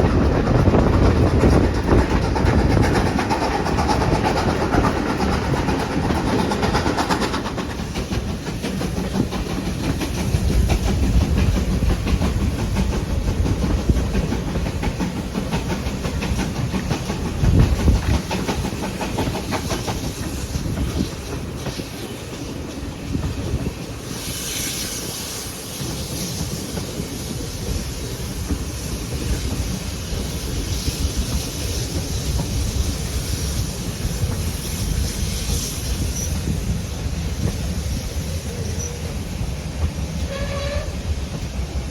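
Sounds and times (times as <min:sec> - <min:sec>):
train rumbling: 0:00.0 - 0:41.9
wheels clicking over rail joints: 0:00.0 - 0:41.9.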